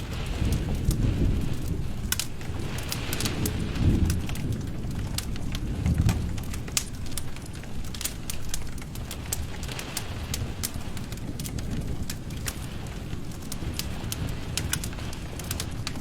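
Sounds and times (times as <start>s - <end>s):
rain: 0.0s - 16.0s
wood fire crackling: 0.0s - 16.0s.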